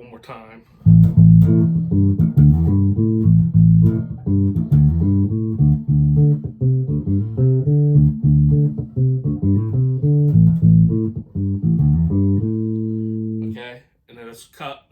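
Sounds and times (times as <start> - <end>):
electric bass played fingerstyle: 0.8 - 13.6.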